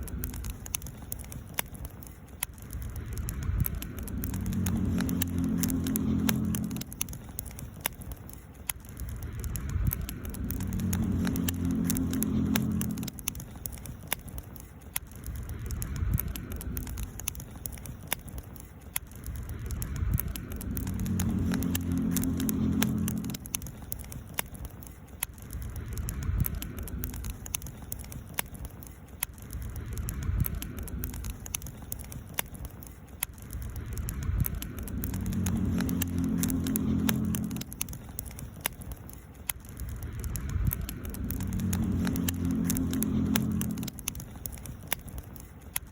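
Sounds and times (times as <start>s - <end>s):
campfire crackling and popping: 0.0s - 45.9s
low rumble: 0.0s - 45.9s.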